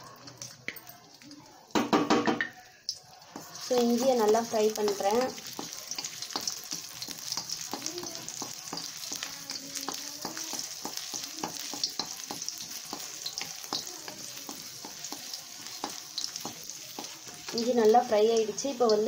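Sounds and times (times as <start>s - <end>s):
ginger sizzling in oil: 0.0s - 19.0s.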